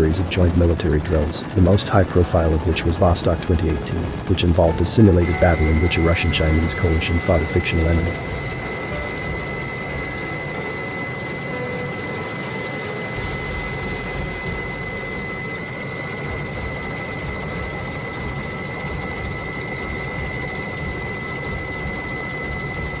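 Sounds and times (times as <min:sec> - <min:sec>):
turbine hiss with high whine: 0:00.0 - 0:23.0.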